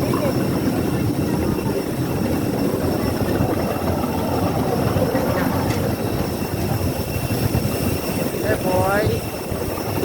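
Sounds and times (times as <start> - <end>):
airliner turbine drone with whine: 0.0 - 10.0.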